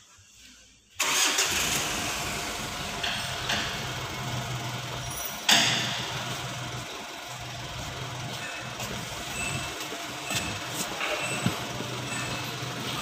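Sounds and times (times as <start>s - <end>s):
car engine starting and idling: 1.0s - 13.0s.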